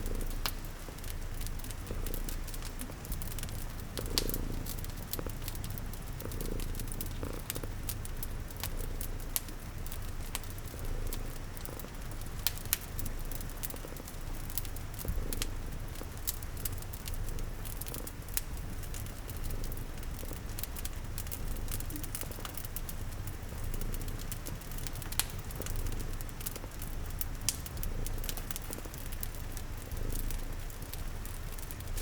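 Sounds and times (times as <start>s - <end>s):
cat purring: 0.0s - 32.0s
rain hiss: 0.0s - 32.0s
wood fire crackling: 0.0s - 32.0s.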